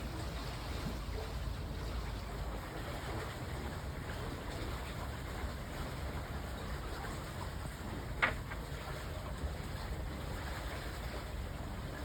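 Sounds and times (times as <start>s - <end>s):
water streaming past hull: 0.0s - 12.0s.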